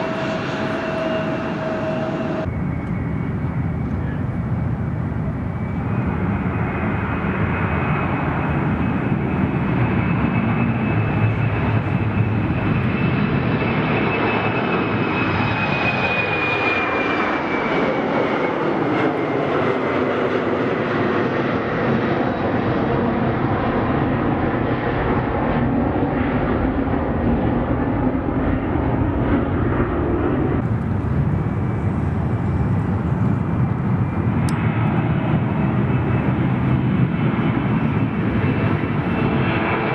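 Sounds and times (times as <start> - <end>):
airliner engines roaring with whine: 0.0 - 39.9.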